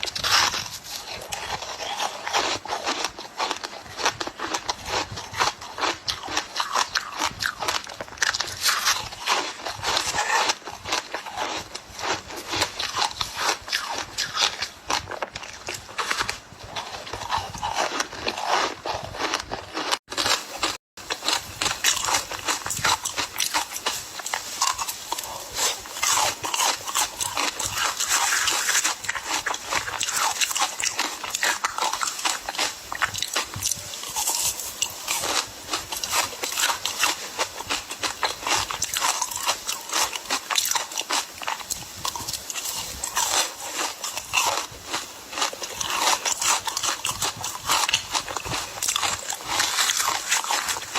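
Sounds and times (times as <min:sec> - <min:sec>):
ice being chewed: 0:00.0 - 0:50.9.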